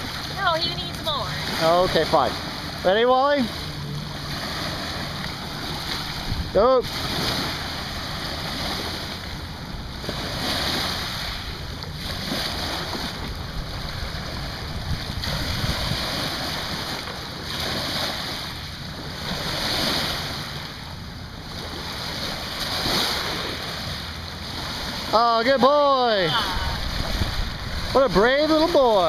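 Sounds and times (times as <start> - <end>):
small waves washing onto shore: 0.0 - 29.0.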